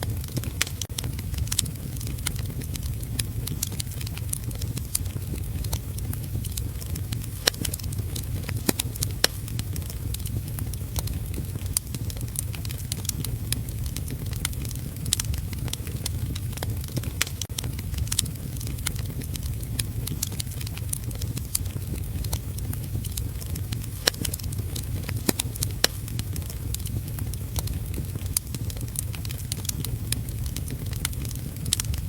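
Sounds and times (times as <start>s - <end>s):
low rumble: 0.0s - 32.0s
wood fire crackling: 0.0s - 32.0s.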